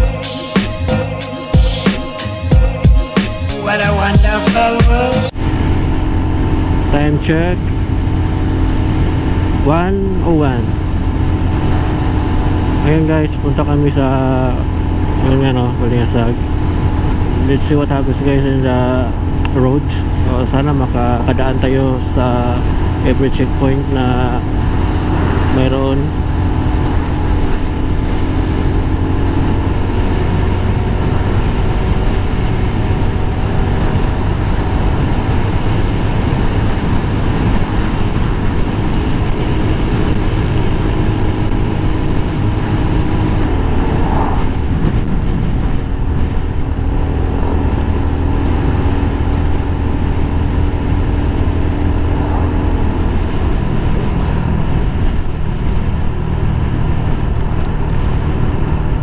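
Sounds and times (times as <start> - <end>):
motorcycle engine hum: 0.0 - 59.0
wind and road noise: 5.3 - 59.0.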